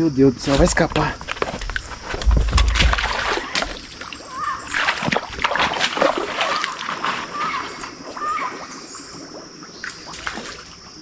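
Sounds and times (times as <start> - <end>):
water splashing: 0.3 - 11.0.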